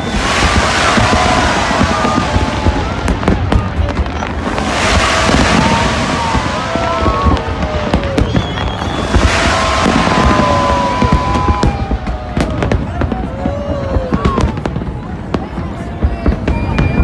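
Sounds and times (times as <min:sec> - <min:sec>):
fireworks whistling: 0:00.0 - 0:15.3, 0:16.0 - 0:17.0
fireworks bangs and crackle: 0:00.0 - 0:17.0.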